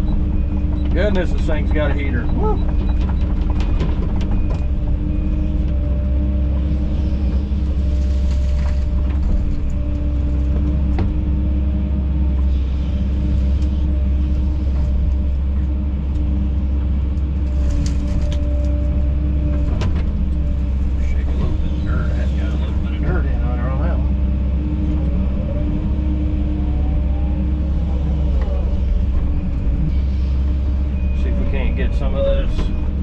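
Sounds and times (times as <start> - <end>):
excavator diesel engine humming: 0.0 - 33.0.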